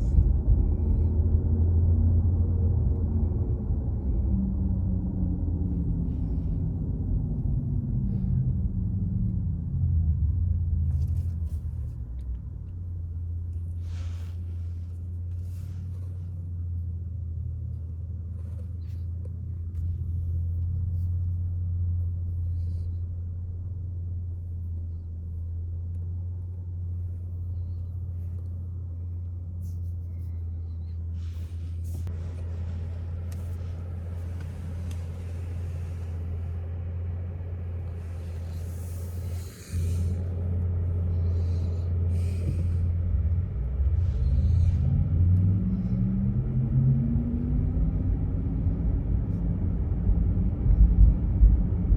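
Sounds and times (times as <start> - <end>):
low hum falling in pitch: 0.0 - 13.6, 18.9 - 51.9.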